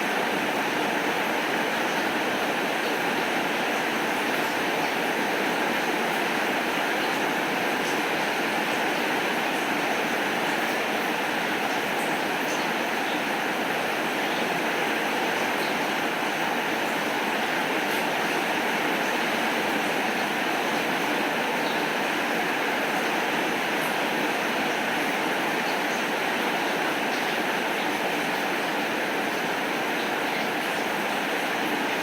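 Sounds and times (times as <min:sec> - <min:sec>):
heavy rain: 0:00.0 - 0:32.0.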